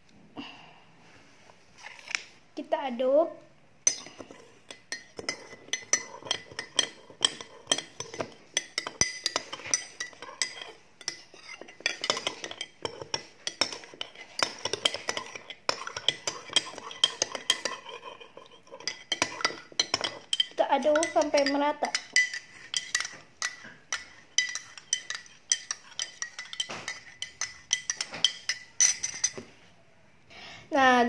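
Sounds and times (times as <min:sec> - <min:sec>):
metal spoon clinking in glass mug: 0:03.8 - 0:29.4.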